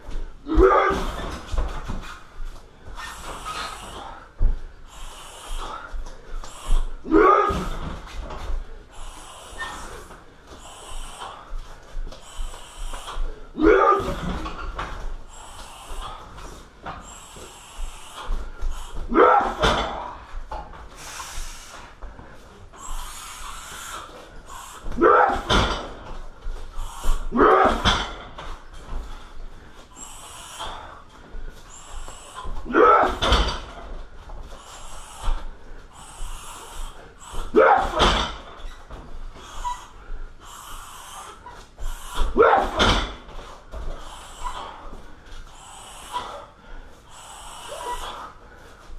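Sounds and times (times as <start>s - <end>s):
sharp breaths through nose: 1.1s - 7.1s, 7.8s - 13.6s, 14.3s - 19.1s, 20.0s - 25.0s, 25.8s - 27.4s, 28.3s - 32.7s, 33.6s - 37.6s, 38.2s - 42.4s, 43.1s - 48.9s.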